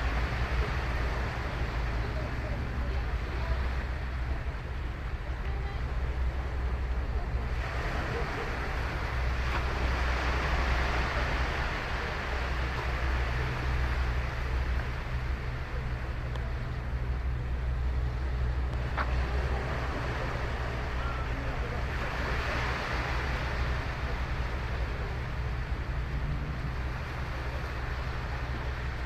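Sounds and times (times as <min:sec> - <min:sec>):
surf breaking on beach: 0:00.0 - 0:16.2, 0:17.8 - 0:29.0
wind rumble on microphone: 0:00.0 - 0:29.0.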